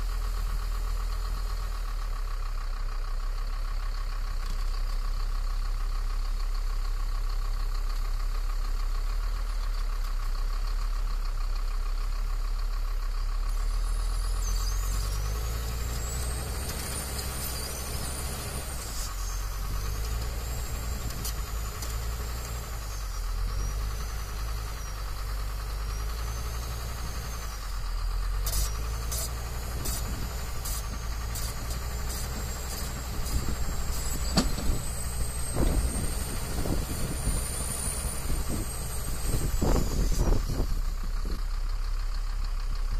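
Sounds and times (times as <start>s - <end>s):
heavy vehicle engine rumbling: 0.0s - 42.9s.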